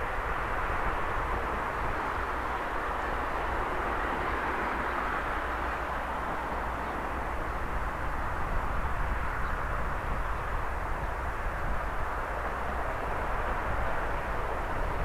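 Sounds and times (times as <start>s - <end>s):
distant diesel locomotive droning: 0.0s - 15.0s.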